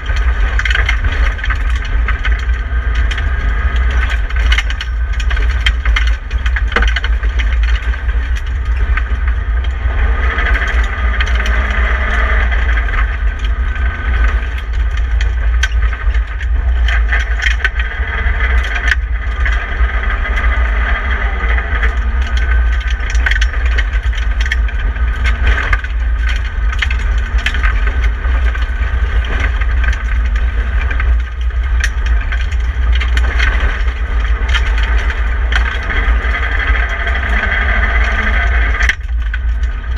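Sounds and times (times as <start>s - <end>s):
car engine running hard: 0.0s - 39.9s
stones and loose parts rattling: 0.0s - 39.9s
tyres on gravel: 0.0s - 39.9s.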